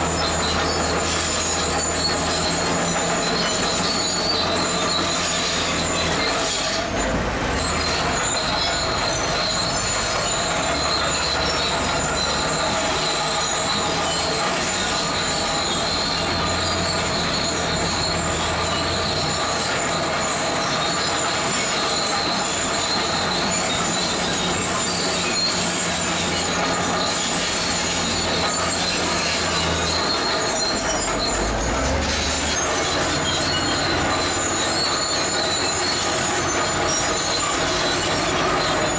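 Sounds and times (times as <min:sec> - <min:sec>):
diesel engine under load: 0:00.0 - 0:38.9
steel tracks squealing: 0:00.0 - 0:38.9.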